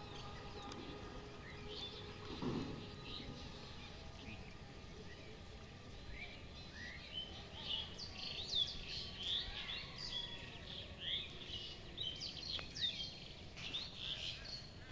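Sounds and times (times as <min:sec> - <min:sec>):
birds chirping: 0:00.0 - 0:14.9
faint outdoor background noise: 0:00.0 - 0:14.9.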